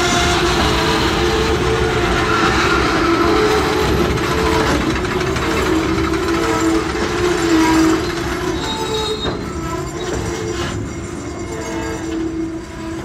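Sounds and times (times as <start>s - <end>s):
freight train rumbling past: 0.0s - 13.0s
wavering wheel squeal: 0.0s - 13.0s.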